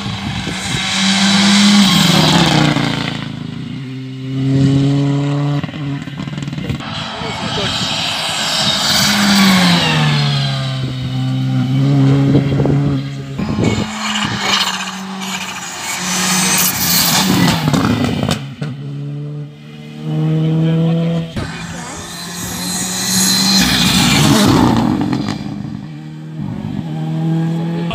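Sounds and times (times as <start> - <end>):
rally car engine revving: 0.0 - 27.9.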